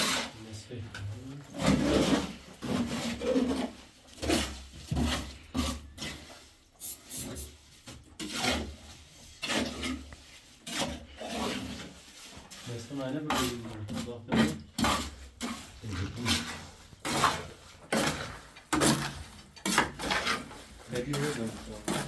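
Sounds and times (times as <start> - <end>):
rough scraping strokes: 0.0 - 22.0.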